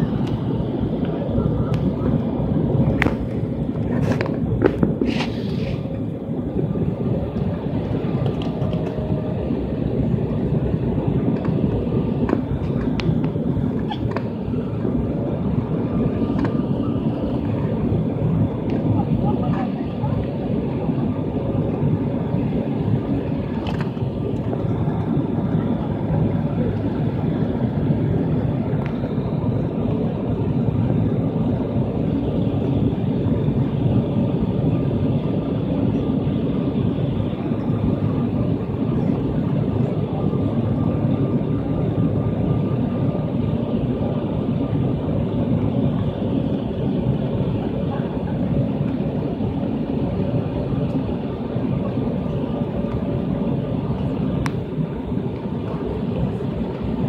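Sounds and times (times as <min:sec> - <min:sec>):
jet airliner cabin noise: 0:00.0 - 0:57.0.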